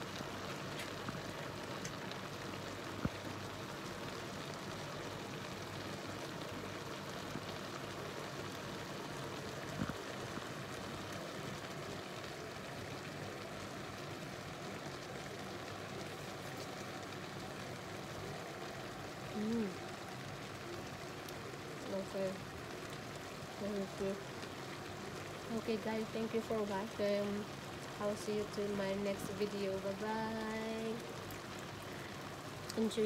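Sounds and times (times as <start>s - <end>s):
pot simmering and bubbling: 0.0s - 33.0s.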